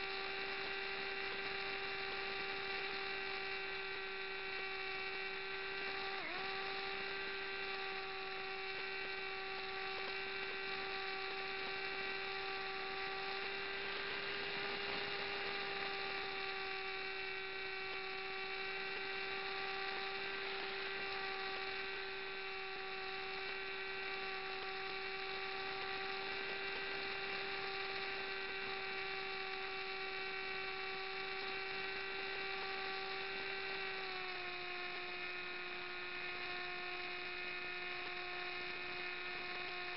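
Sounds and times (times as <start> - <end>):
model aircraft motor whine: 0.0 - 39.9.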